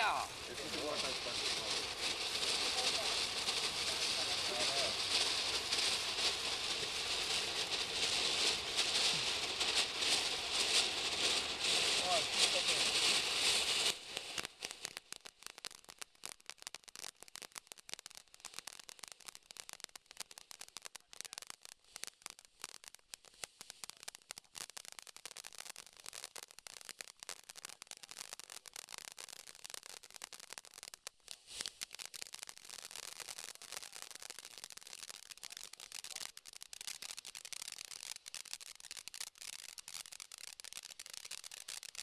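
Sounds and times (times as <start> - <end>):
sparkler hissing and crackling: 0.0 - 42.0.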